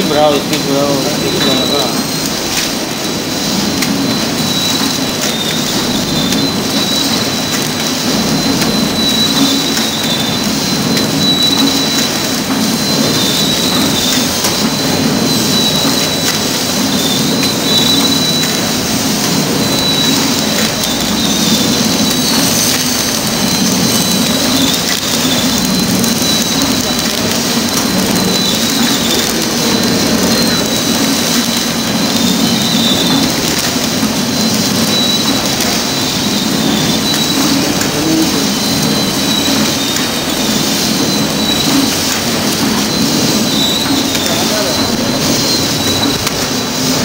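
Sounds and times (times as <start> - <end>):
packing machine drone: 0.0 - 47.0
thin high whine: 0.0 - 47.0.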